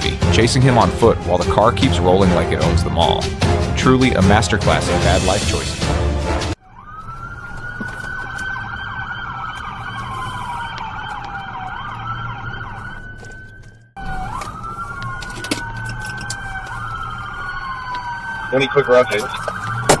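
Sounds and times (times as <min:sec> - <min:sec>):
police siren wailing: 0:00.0 - 0:20.0.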